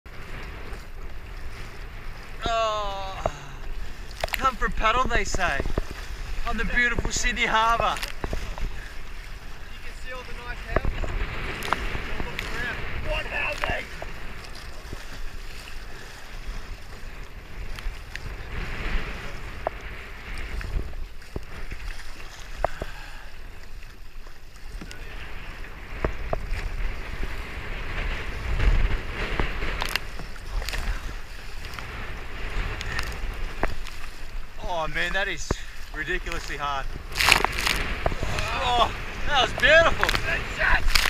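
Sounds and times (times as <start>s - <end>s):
water splashing against kayak: 0.1s - 41.0s
wind buffeting microphone: 0.1s - 41.0s.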